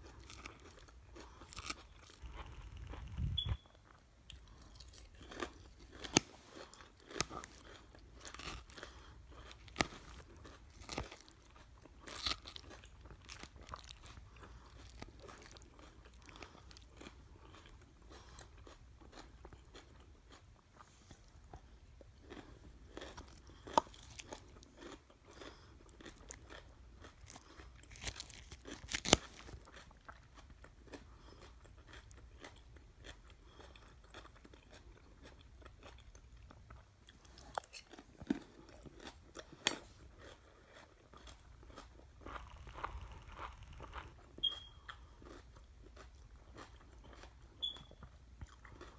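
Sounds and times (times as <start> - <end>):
chewing crunchy salad: 0.0 - 48.9.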